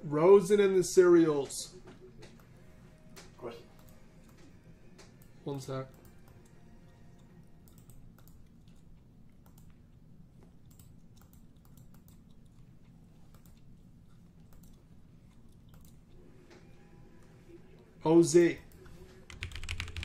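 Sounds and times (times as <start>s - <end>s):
faint keyboard typing: 1.3s - 20.0s.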